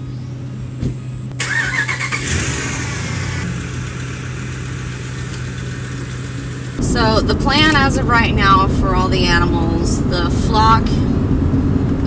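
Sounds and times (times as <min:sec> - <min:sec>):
truck engine cranking and idling: 0:00.4 - 0:12.0.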